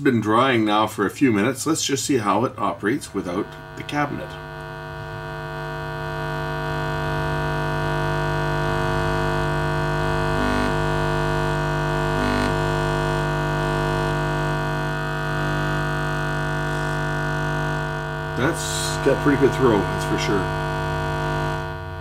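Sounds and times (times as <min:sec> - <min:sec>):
woofer playing low buzzy hum: 0:00.0 - 0:22.0.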